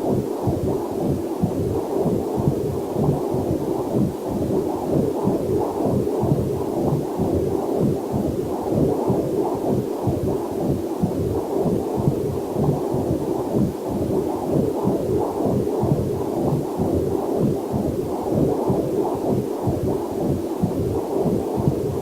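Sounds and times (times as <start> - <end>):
doppler heartbeat whooshing pulses: 0.0 - 22.0.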